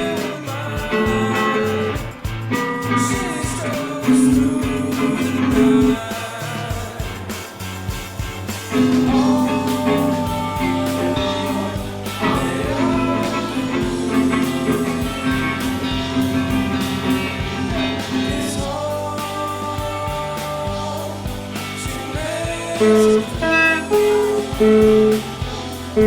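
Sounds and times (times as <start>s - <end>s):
person singing: 0.0s - 7.6s, 8.7s - 25.4s
rock song with guitar: 0.0s - 26.0s.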